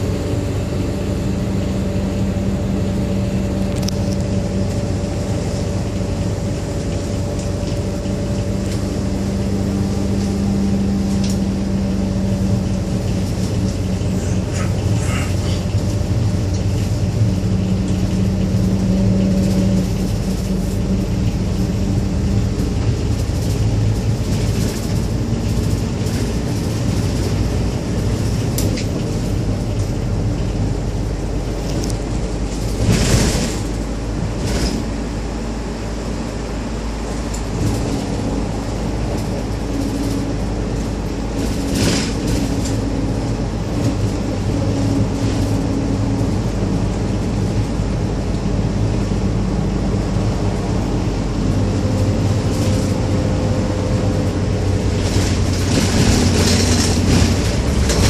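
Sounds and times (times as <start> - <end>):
engine drone: 0.0 - 58.0
road noise: 0.0 - 58.0.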